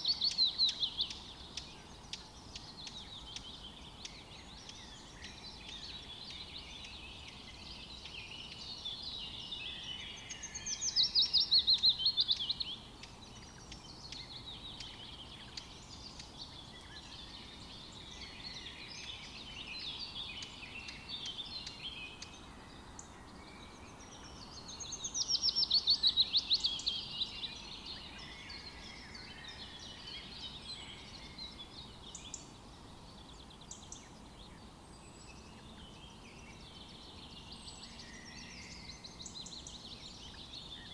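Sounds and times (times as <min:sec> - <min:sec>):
birds singing: 0:00.0 - 0:40.9
faint background hiss: 0:00.0 - 0:40.9.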